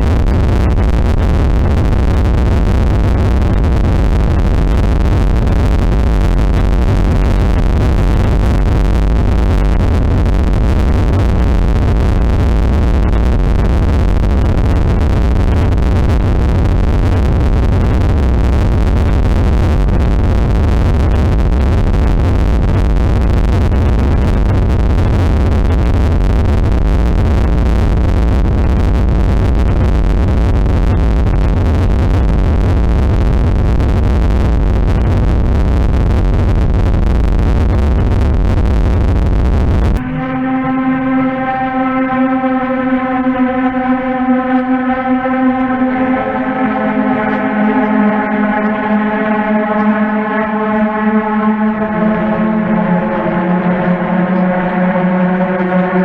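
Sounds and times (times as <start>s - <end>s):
deep rumble: 0.0s - 56.0s
droning synthesized noise: 0.0s - 56.0s.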